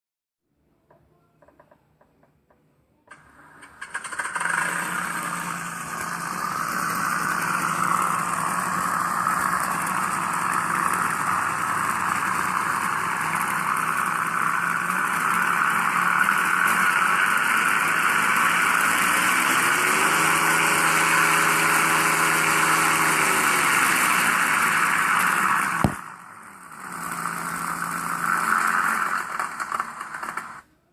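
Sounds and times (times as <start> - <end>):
simulated radial engine running: 3.1 - 30.7.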